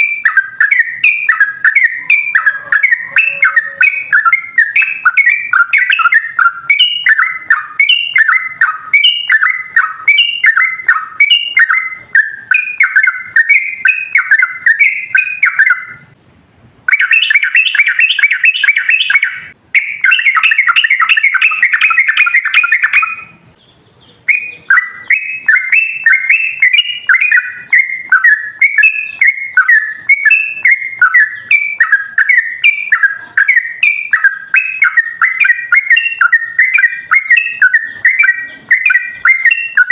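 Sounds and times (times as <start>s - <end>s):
bulbul singing bubbly phrases: 0.0s - 16.1s, 16.9s - 39.9s
bird rapid chatter: 0.0s - 16.2s, 16.8s - 39.9s.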